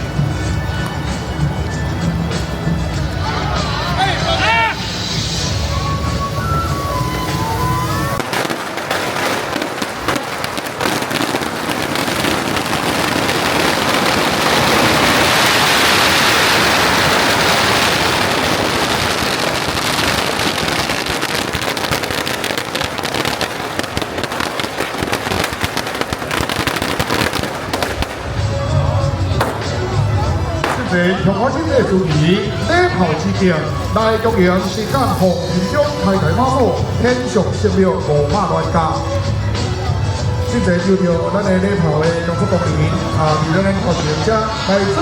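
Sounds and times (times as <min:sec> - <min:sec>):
firecrackers and fireworks crackling: 0:00.0 - 0:45.0.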